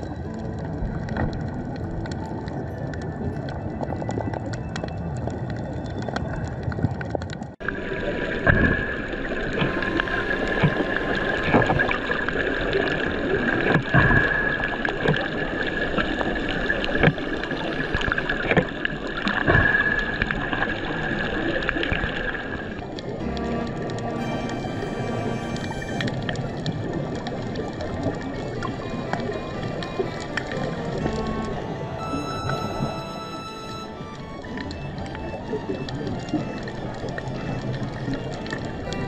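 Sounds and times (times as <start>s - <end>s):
underwater hiss and crackle: 0.0s - 39.0s.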